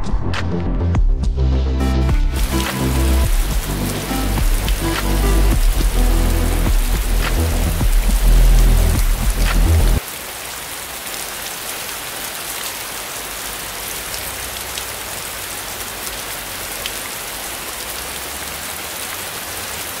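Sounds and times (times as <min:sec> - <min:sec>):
heavy rain on wet road: 0:02.3 - 0:20.0.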